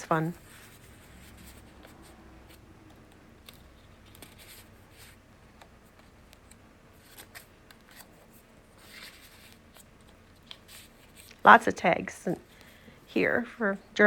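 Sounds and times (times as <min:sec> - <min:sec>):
paper pages rustling: 0:00.0 - 0:11.4.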